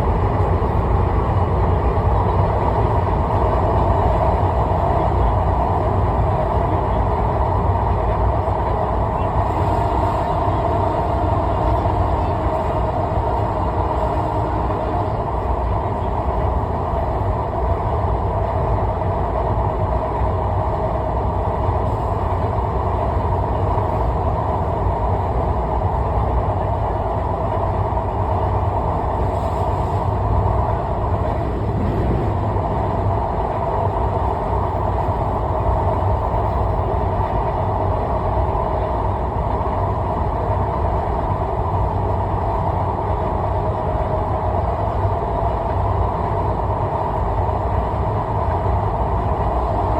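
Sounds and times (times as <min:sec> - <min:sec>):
vehicle rumbling at speed: 0:00.0 - 0:49.8.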